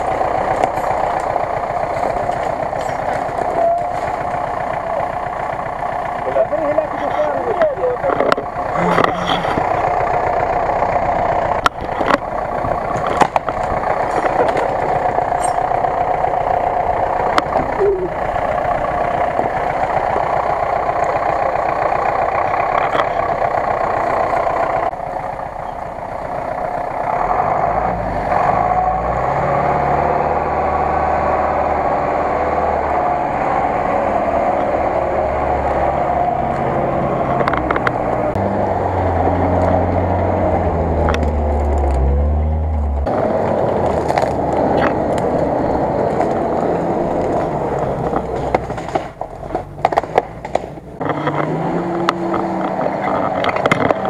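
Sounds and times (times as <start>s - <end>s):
truck engine under load: 0.0s - 54.0s.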